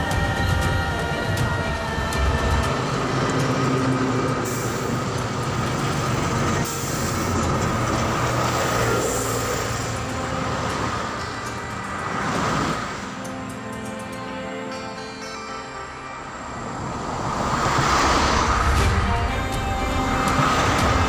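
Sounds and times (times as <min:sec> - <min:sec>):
vehicle engines running: 0:00.0 - 0:14.7, 0:15.7 - 0:21.0.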